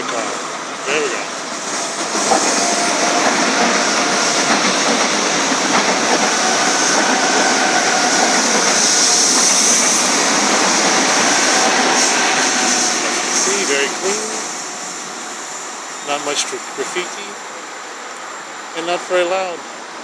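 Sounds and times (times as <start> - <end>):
faint train whine: 0.0 - 20.0
train wheels rushing on rails: 0.0 - 20.0.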